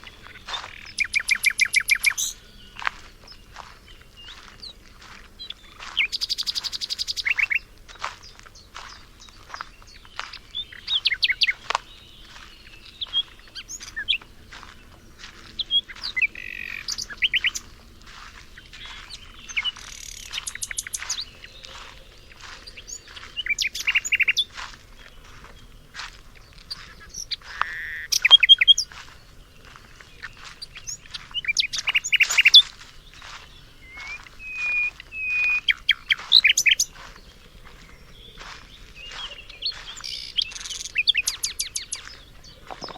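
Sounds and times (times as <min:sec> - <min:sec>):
songbirds singing and chirping: 0:00.0 - 0:42.9.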